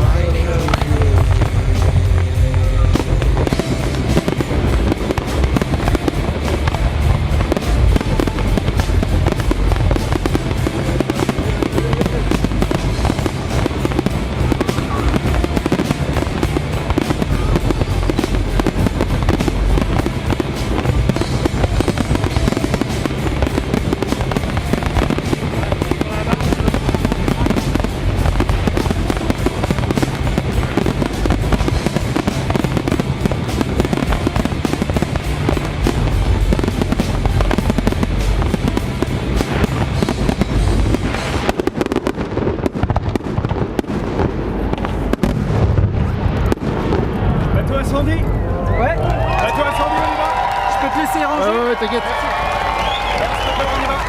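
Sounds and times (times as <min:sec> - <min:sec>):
music playing: 0:00.0 - 0:45.5, 0:48.0 - 0:54.0
fireworks bangs and crackles: 0:00.0 - 0:54.0.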